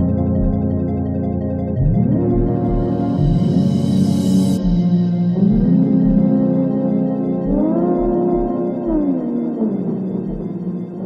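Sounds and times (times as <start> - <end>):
background music held chords: 0.0 - 11.0.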